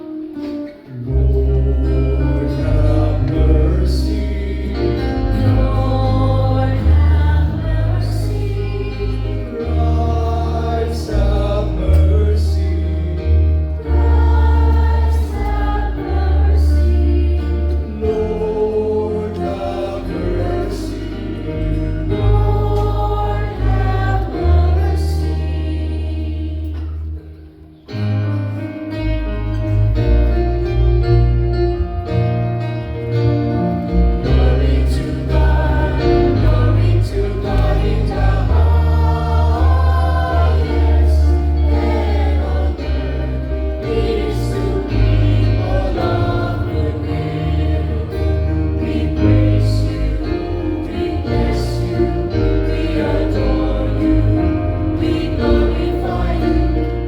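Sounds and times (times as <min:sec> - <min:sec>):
choir singing a hymn: 0:00.0 - 0:28.7, 0:29.6 - 0:57.0
held low bass notes: 0:01.0 - 0:57.0.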